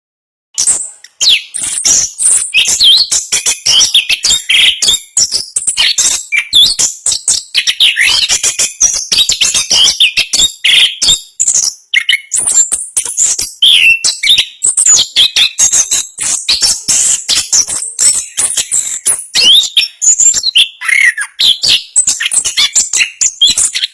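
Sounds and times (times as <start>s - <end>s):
thrush singing rapid whistles: 0.6s - 23.9s.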